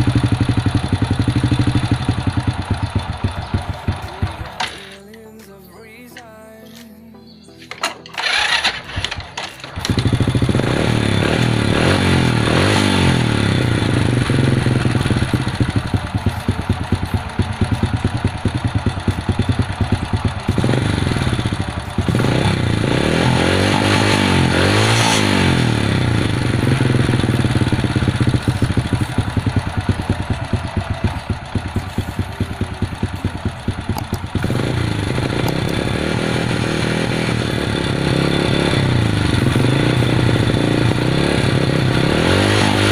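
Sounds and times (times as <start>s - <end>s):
motorcycle engine revving: 0.0s - 5.0s, 7.8s - 42.9s.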